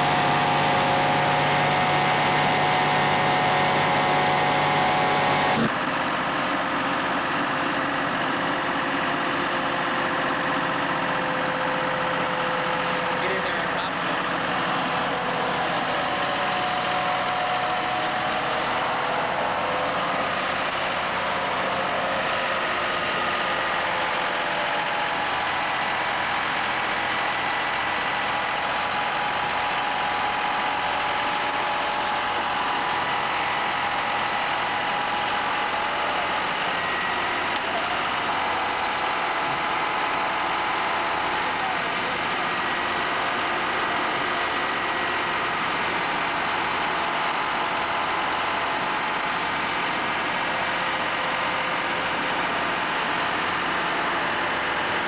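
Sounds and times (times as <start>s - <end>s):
engine and suction blower running: 0.0s - 55.0s.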